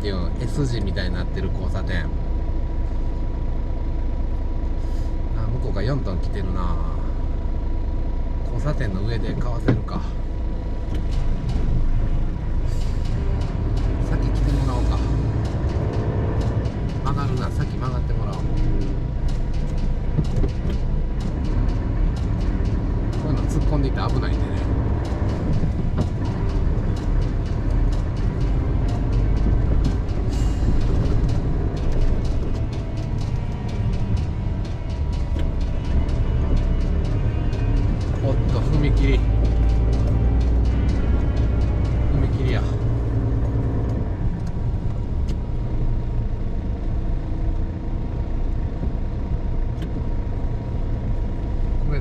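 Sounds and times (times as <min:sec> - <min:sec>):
truck diesel engine rumbling: 0:00.0 - 0:52.0.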